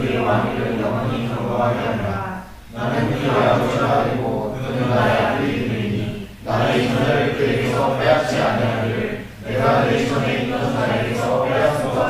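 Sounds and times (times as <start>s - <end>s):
congregation reading aloud in unison: 0.0s - 12.0s.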